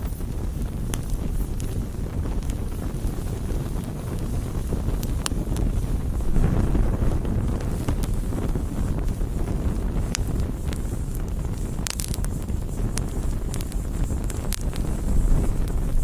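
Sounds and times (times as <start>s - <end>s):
burning wood crackling and popping: 0.0s - 16.0s
campfire rumbling: 0.0s - 16.0s.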